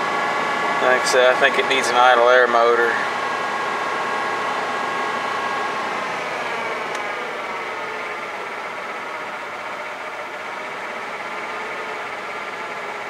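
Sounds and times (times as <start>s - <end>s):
engine idling: 0.0s - 13.0s
steady whine: 0.0s - 13.0s.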